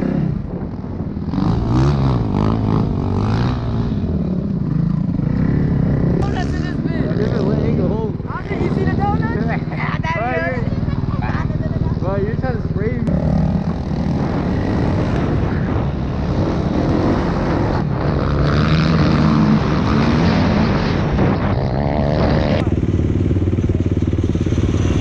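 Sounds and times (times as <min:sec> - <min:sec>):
dirt bike engine revving: 0:01.2 - 0:10.5, 0:12.6 - 0:25.0.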